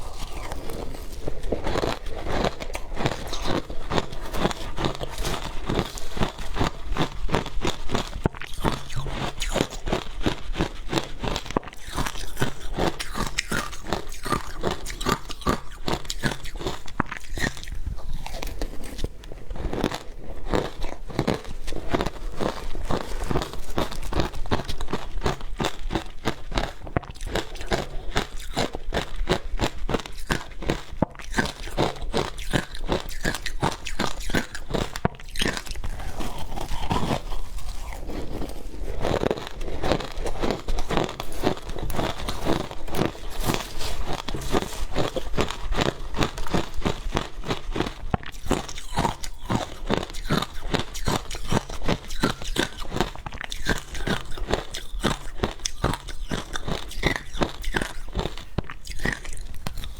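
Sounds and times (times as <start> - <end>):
ice being bitten and chewed: 0.0 - 59.9.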